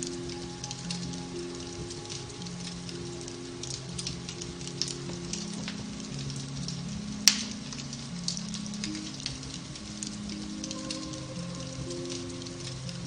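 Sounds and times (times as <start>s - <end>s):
fire crackling and popping: 0.0s - 13.0s
soft slow piano music: 0.0s - 13.0s.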